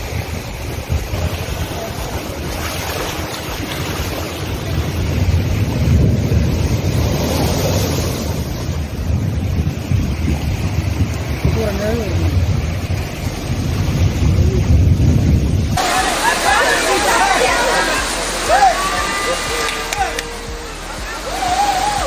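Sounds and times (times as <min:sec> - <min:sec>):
rough sea waves: 0:00.0 - 0:22.0
storm wind on microphone: 0:00.0 - 0:22.0.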